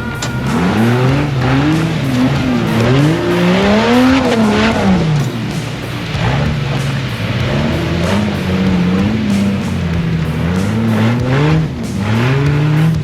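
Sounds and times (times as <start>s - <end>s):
off-road vehicle engine revving: 0.0s - 13.0s
tires rushing over ground: 0.0s - 13.0s.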